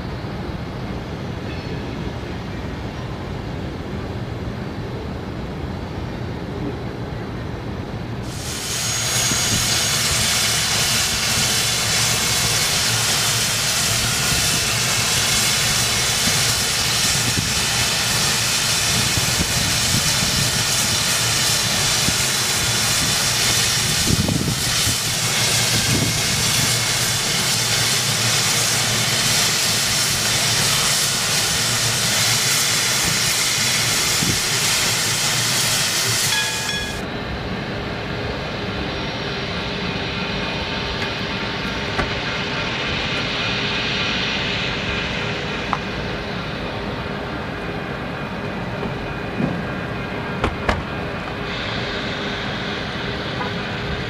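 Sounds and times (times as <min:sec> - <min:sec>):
steam locomotive hissing: 0:08.2 - 0:54.0.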